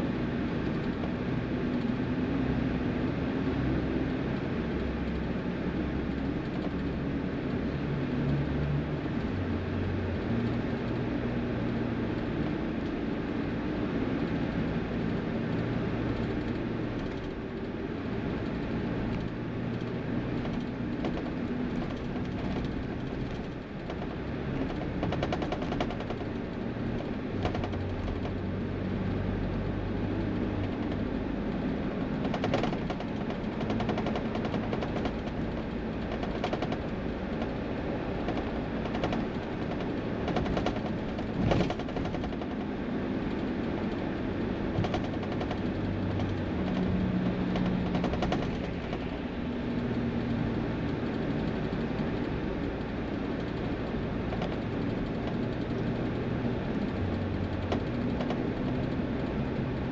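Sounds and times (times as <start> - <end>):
diesel engines running: 0.0 - 59.9
road noise: 0.0 - 59.9
rapid rattling clatter: 6.1 - 8.4, 14.2 - 59.9.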